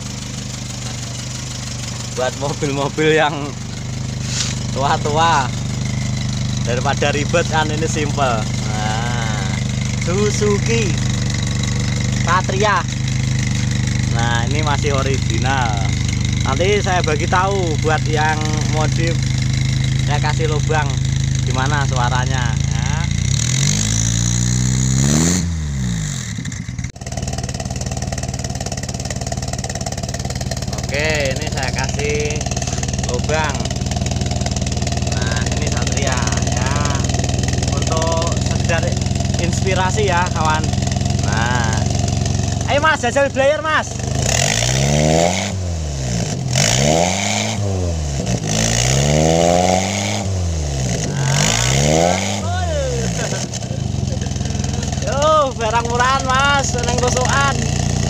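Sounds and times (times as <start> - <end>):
engine revving and idling: 0.0 - 58.0.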